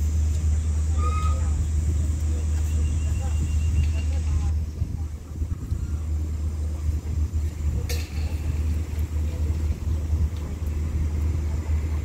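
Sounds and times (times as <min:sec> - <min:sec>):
diesel train engine idling: 0:00.0 - 0:12.0.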